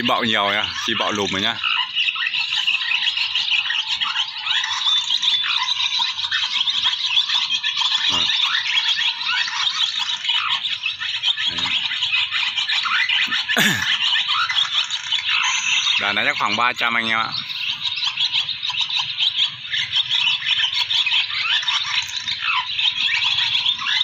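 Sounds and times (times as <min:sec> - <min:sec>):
swallows twittering: 0:00.0 - 0:24.0.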